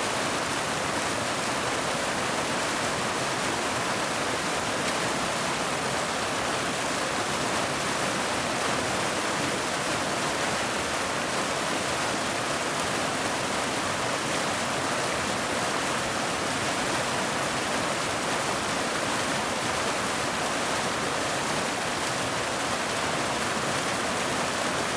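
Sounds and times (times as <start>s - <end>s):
river water flowing: 0.0s - 24.9s.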